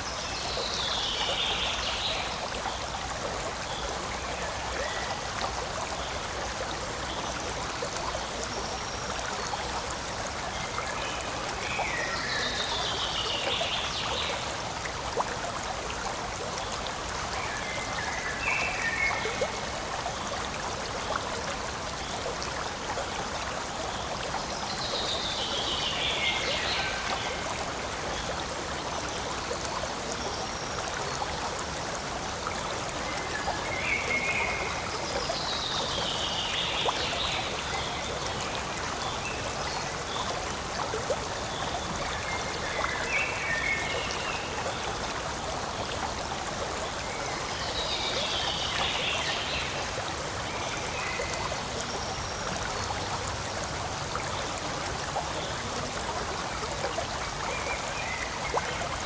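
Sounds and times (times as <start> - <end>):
stream rushing and trickling: 0.0 - 59.0.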